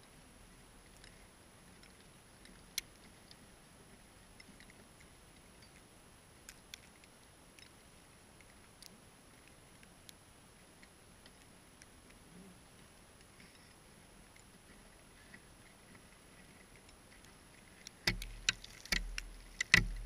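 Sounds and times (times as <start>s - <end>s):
faint sharp clicks: 1.8s - 3.4s, 4.4s - 7.8s, 8.4s - 10.2s, 10.8s - 20.0s.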